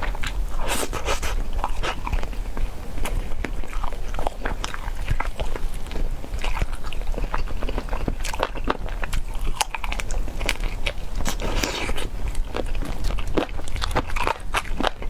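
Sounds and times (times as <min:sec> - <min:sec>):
close chewing mouth clicks: 0:00.0 - 0:15.0.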